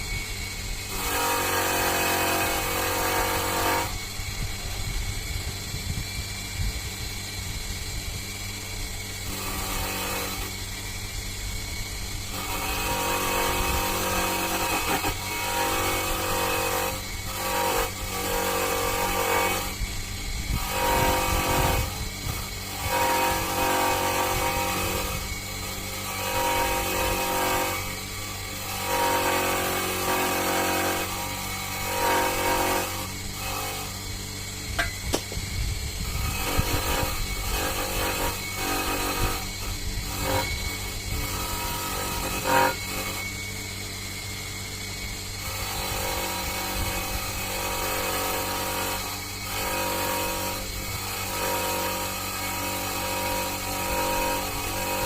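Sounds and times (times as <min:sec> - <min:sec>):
steady low hum: 0:00.0 - 0:54.9
power tool motor whining: 0:00.0 - 0:55.0.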